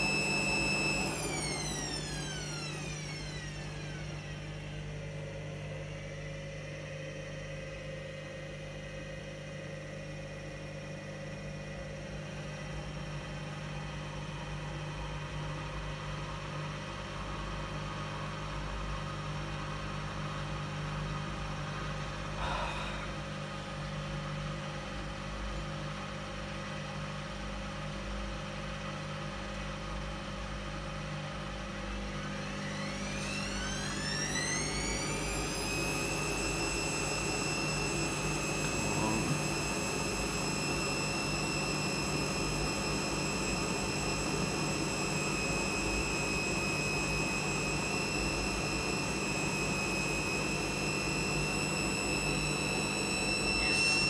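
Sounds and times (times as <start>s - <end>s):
steady mechanical hum: 0.0s - 54.0s
washing machine motor whine: 0.0s - 54.0s.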